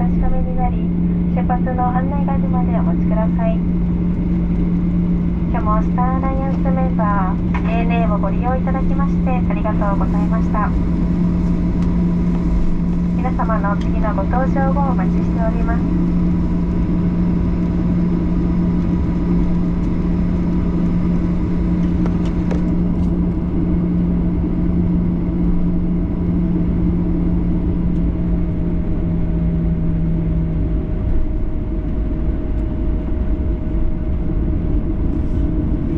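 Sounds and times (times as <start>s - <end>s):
airplane cabin rumble: 0.0s - 35.9s
low hum: 0.0s - 35.9s.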